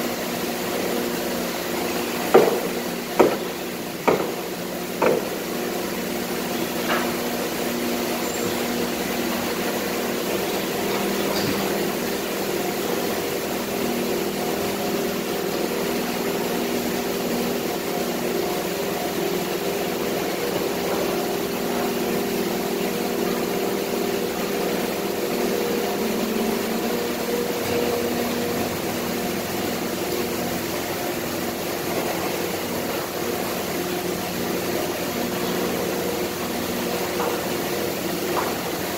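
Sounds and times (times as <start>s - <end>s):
factory machinery drone: 0.0s - 38.9s.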